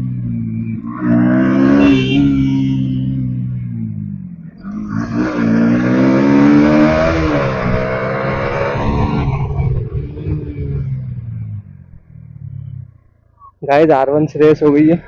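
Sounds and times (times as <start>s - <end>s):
motorcycle engine accelerating: 0.0s - 13.4s.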